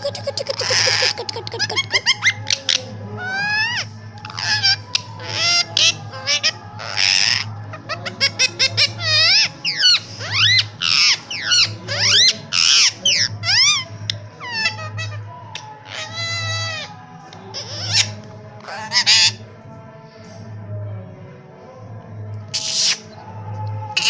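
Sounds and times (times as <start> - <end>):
parakeet chattering: 0.0 - 19.4, 22.5 - 23.0
parakeet squawks: 0.0 - 19.4, 22.5 - 23.2.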